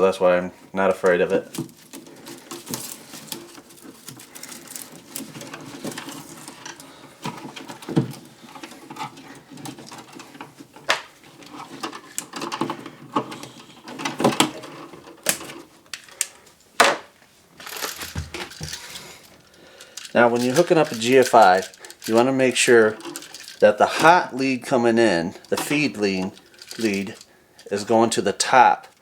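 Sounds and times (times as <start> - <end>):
hands handling electrical wire: 1.0 - 29.0.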